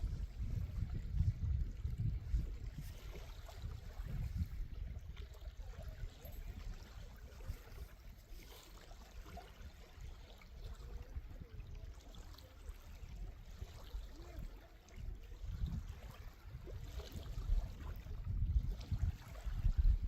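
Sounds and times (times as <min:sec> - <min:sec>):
water trickling and lapping: 0:00.0 - 0:20.0.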